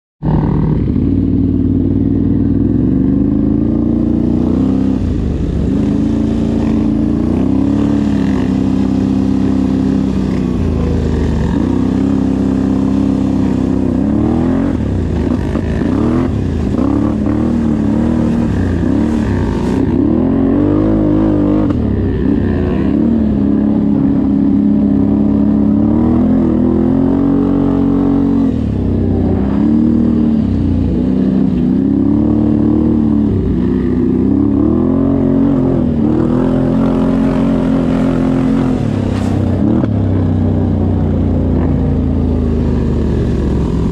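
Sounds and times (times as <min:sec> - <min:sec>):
off-road vehicle engine revving: 0:00.2 - 0:43.9.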